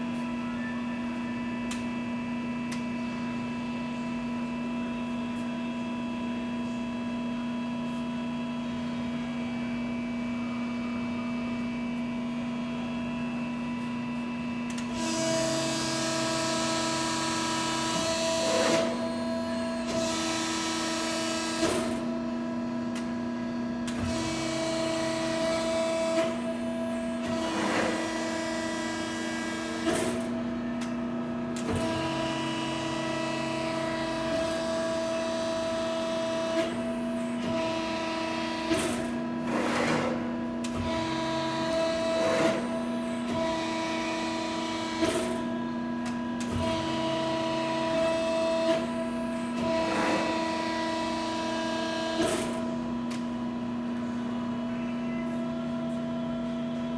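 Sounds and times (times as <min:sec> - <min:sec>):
motor and pump hum: 0:00.0 - 0:56.9.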